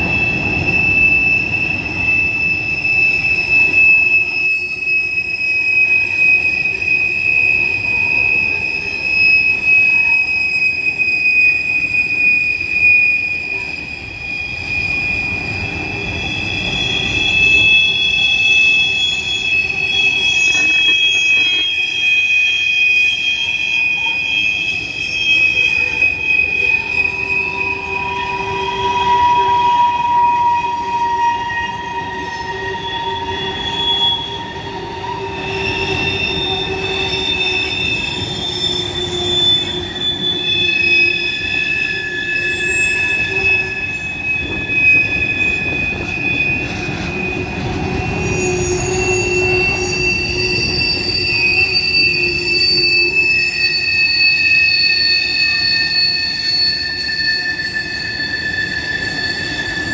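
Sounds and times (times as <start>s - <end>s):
rumble and clatter of train wheels: 0.0s - 59.9s
train wheels squealing on rails: 0.0s - 59.9s.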